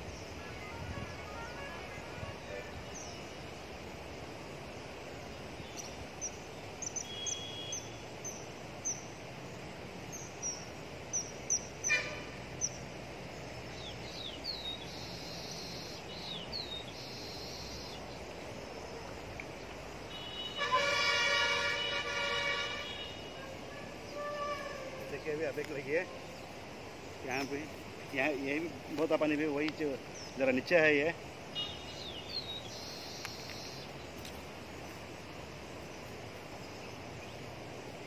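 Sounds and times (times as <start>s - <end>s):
small birds chirping: 0.0s - 3.8s, 4.9s - 20.6s, 22.7s - 38.0s
steady background noise: 0.0s - 38.0s.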